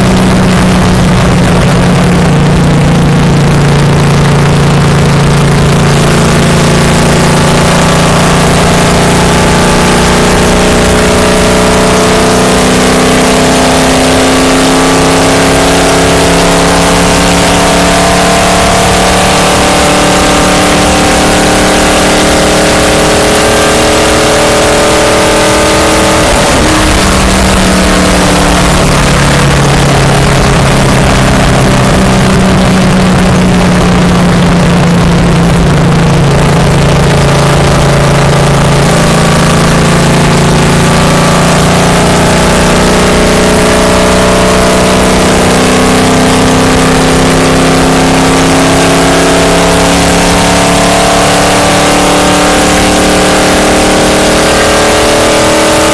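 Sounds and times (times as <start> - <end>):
race car engine at high revs: 0.0 - 55.9
wind and road noise: 0.0 - 55.9.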